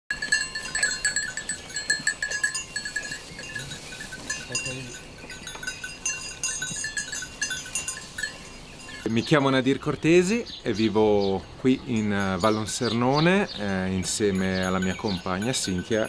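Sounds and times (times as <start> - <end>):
sheep bells clinking: 0.1 - 10.9, 11.7 - 16.0.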